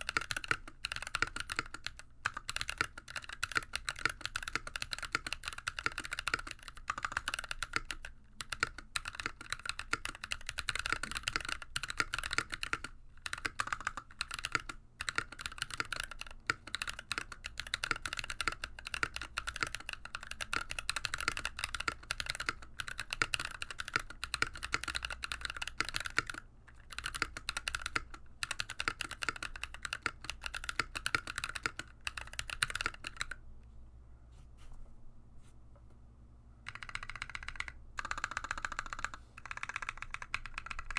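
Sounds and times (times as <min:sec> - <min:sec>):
fast typing on mechanical keyboard: 0:00.0 - 0:33.4, 0:36.7 - 0:40.9.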